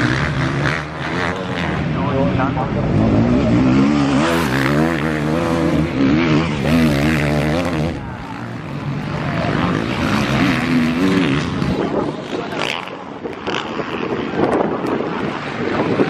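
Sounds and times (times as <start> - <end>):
distant bike engines revving: 0.0 - 16.0
motocross bike engine revving: 0.0 - 16.0.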